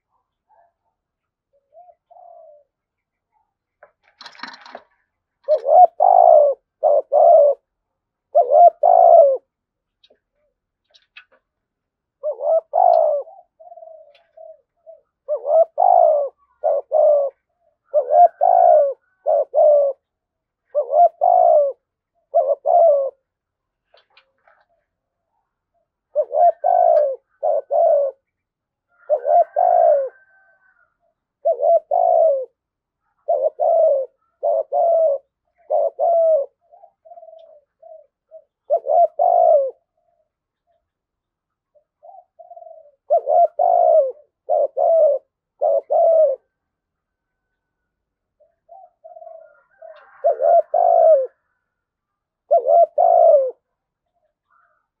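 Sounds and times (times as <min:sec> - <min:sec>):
dove cooing: 0:00.0 - 0:40.9, 0:41.6 - 0:46.7, 0:48.4 - 0:55.0.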